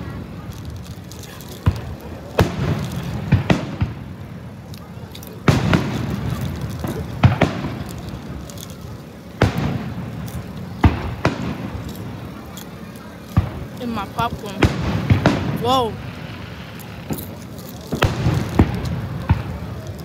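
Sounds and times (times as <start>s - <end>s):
fireworks booming with echo: 0.0s - 20.0s.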